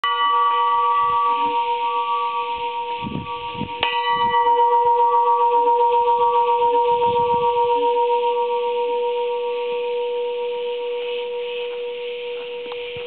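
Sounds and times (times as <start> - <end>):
church bell ringing: 0.0 - 13.0.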